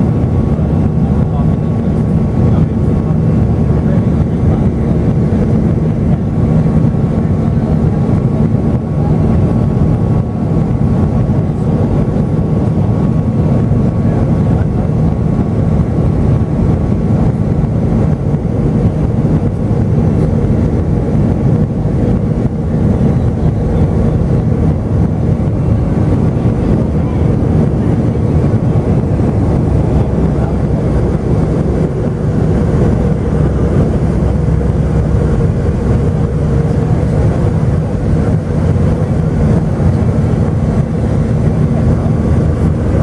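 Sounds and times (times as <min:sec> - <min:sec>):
deep jet engine drone: 0:00.0 - 0:43.0
faint steady whine: 0:00.0 - 0:43.0.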